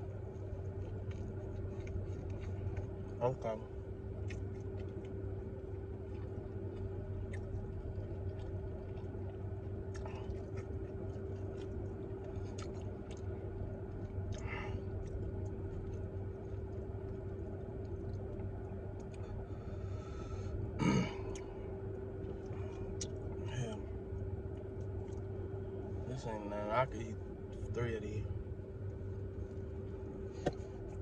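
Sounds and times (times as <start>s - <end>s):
man chewing with wet mouth clicks: 0.0s - 26.4s
car air conditioning hum: 0.0s - 31.0s.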